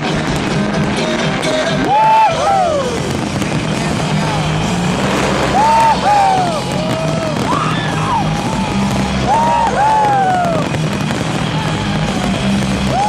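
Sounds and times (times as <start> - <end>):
loud music through loudspeakers: 0.0 - 13.0
crowd whooping and cheering: 1.4 - 13.0.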